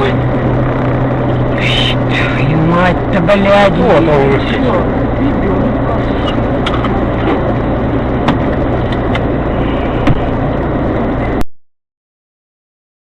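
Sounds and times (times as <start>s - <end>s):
car engine and road noise: 0.0s - 11.4s.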